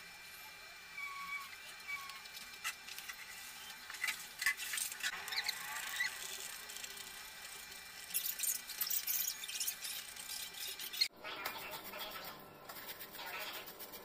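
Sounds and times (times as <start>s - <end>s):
carrot rasping on metal grater: 1.3s - 14.0s.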